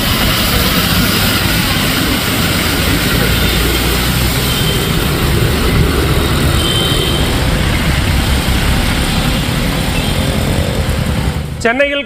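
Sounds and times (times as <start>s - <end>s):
heavy low rumble: 0.0s - 11.6s
vehicles driving through floodwater: 0.0s - 11.9s
vehicle engines running: 0.0s - 12.0s.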